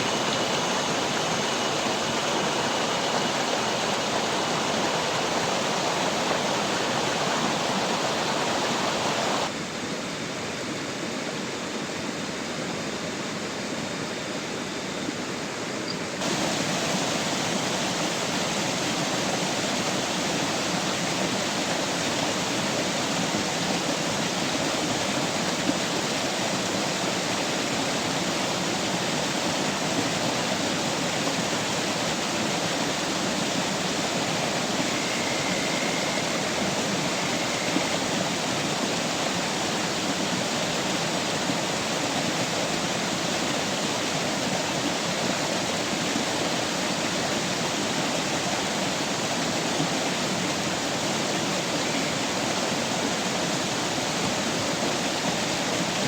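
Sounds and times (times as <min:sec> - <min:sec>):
water rushing: 0:00.0 - 0:09.6, 0:16.2 - 0:56.0.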